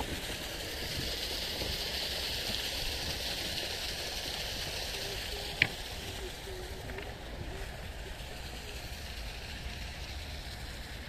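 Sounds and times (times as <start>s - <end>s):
running water hissing: 0.0s - 11.0s.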